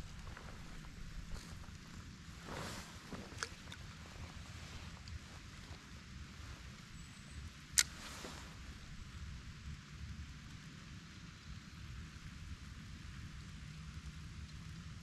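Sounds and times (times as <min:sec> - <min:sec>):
outdoor hiss: 0:00.0 - 0:15.0
wind rumble on microphone: 0:00.0 - 0:15.0.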